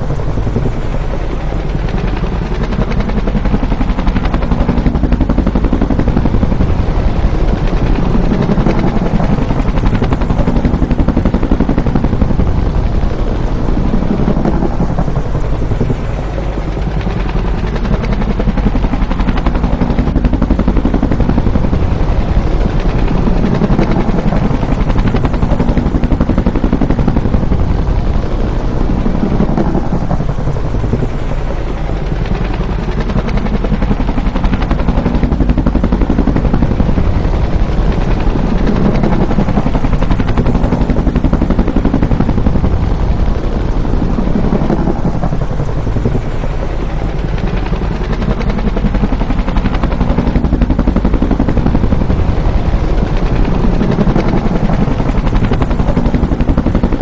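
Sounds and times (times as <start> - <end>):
helicopter rotor chopping: 0.0 - 57.0
turbine engine running: 0.0 - 57.0.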